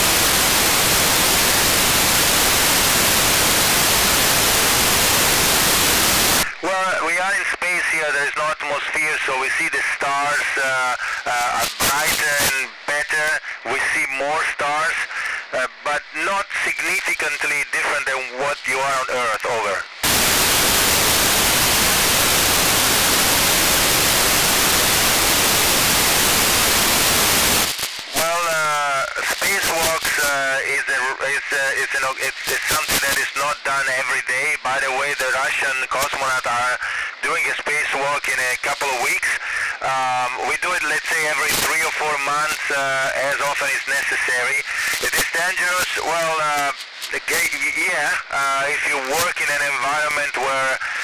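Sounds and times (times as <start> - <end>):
radio static hiss: 0.0 - 51.0.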